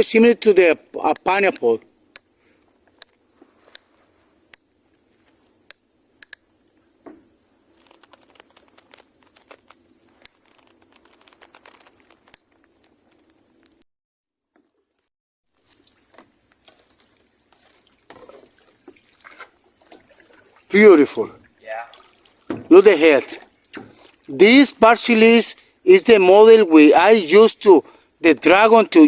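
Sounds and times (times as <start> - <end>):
night insects chorus: 0.0 - 13.8, 14.4 - 29.0.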